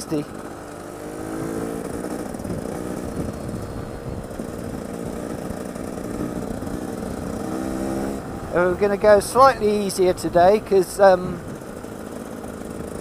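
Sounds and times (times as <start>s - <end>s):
motorcycle engine running: 0.0s - 13.0s
wind buffeting microphone: 1.1s - 11.9s.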